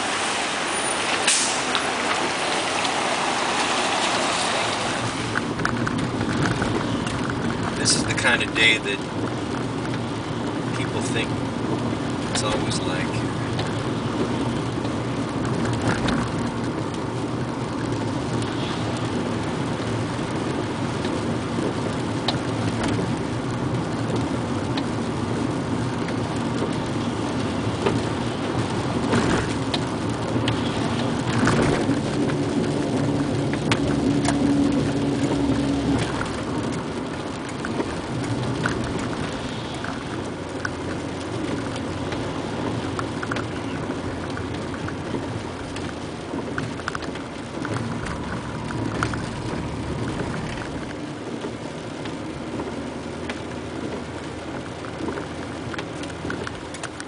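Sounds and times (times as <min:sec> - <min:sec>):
car engine hum: 0:00.0 - 0:57.0
rain on windshield: 0:00.0 - 0:57.0
tyres on wet road: 0:00.0 - 0:57.0.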